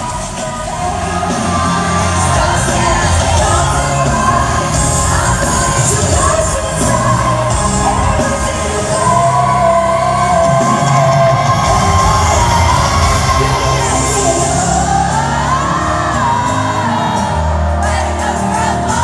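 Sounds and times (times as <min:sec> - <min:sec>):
amplified band playing: 0:00.0 - 0:19.0
concert audience: 0:00.0 - 0:19.0
person singing: 0:00.0 - 0:19.0.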